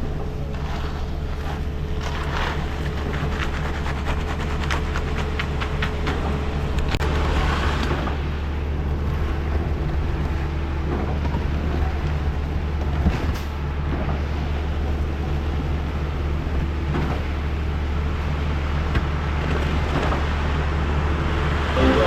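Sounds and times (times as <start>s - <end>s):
diesel engine humming: 0.0s - 12.9s, 13.6s - 22.0s.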